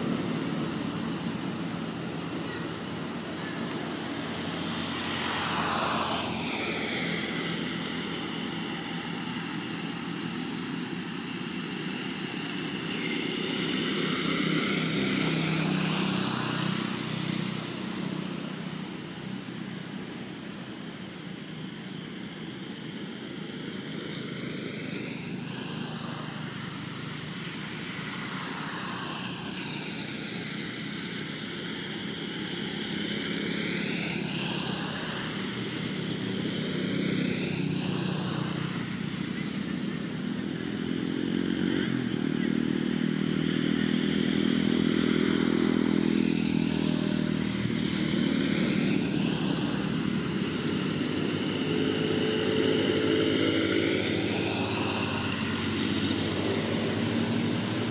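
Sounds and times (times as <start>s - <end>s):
motor vehicle passing by: 0.0s - 57.9s.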